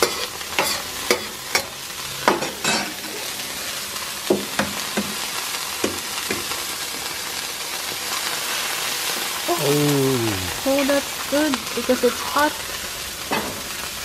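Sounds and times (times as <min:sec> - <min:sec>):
food sizzling on a hotplate: 0:00.0 - 0:14.0.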